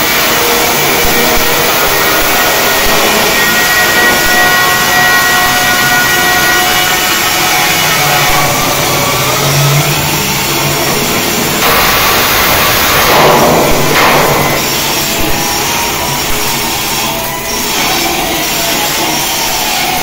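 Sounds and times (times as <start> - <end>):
welding arc crackling: 0.0 - 20.0.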